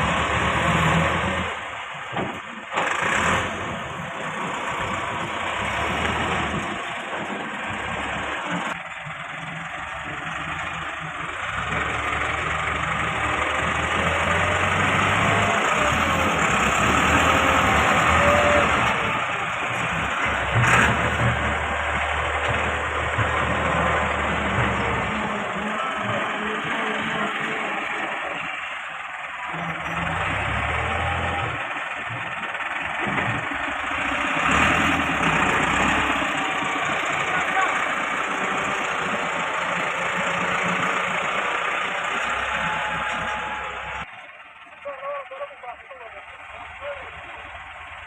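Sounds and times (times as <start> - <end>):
diesel tractor engine running: 0.0 - 48.0
engine knock: 2.0 - 48.0.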